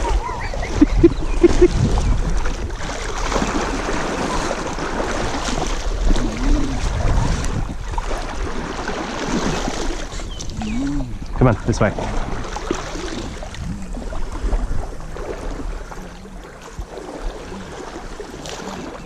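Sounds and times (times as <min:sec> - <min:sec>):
water sloshing around a kayak: 0:00.0 - 0:19.0
wind on microphone: 0:00.0 - 0:19.0.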